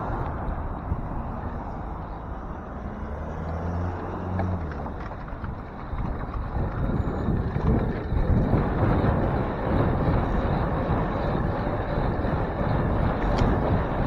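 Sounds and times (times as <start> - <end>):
city street traffic: 0.0 - 14.0
wind rushing over microphone: 0.0 - 14.0.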